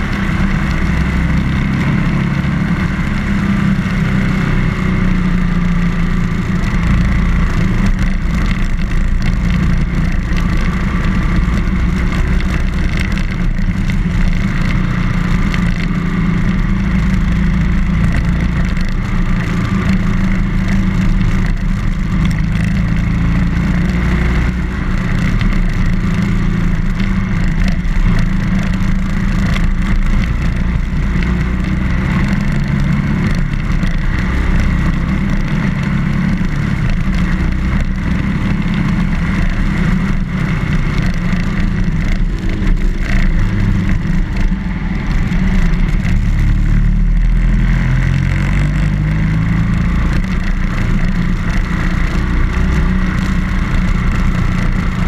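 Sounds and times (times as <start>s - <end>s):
motorcycle engine droning: 0.0s - 55.0s.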